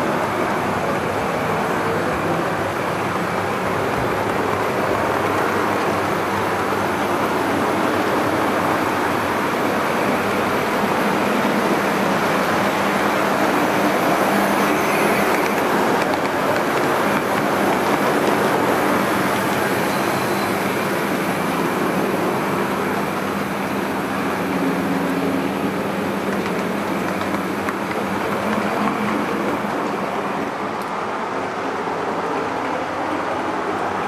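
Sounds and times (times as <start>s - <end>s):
model train running on track: 0.0s - 34.0s.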